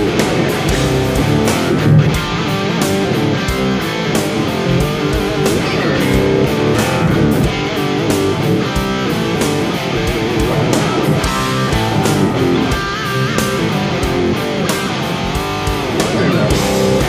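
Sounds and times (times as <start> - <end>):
electric guitar with pitch bends: 0.0 - 17.0
rock band playing: 0.0 - 17.0.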